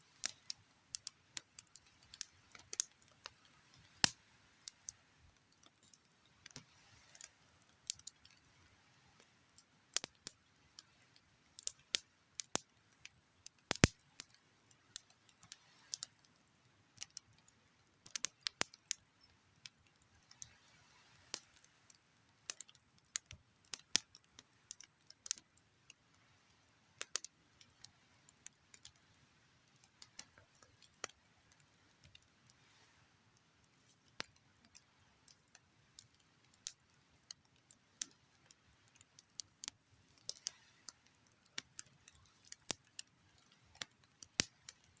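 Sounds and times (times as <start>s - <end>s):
faint hiss: 0.0s - 23.6s, 24.2s - 45.0s
campfire crackling and popping: 0.1s - 45.0s.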